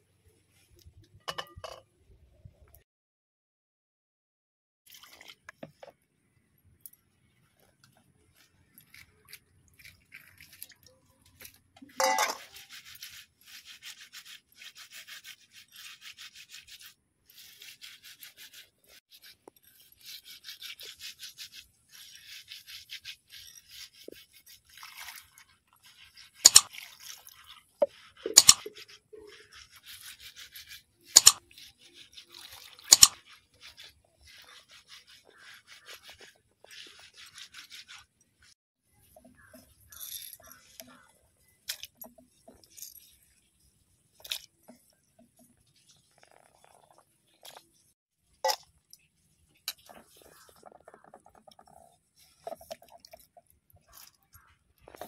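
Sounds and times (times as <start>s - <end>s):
hand scrubbing prawns on wet floor: 7.3s - 55.0s.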